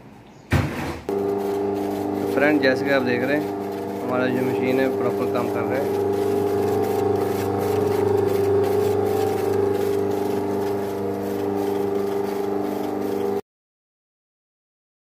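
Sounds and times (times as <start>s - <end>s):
floor scrubber motor hum: 1.1s - 13.4s.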